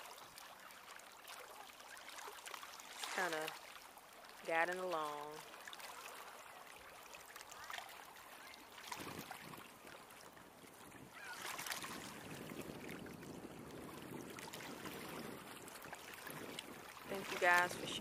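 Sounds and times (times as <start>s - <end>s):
lake water washing: 0.0s - 18.0s.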